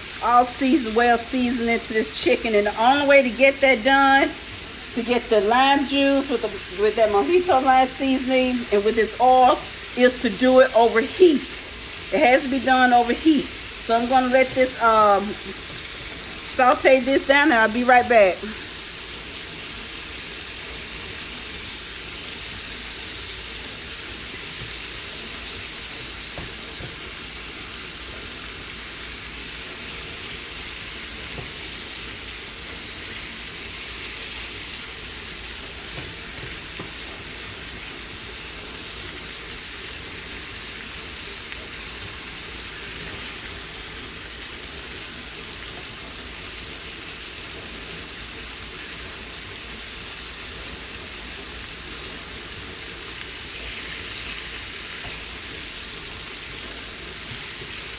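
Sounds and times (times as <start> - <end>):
chicken sizzling in frying pan: 0.0 - 57.9.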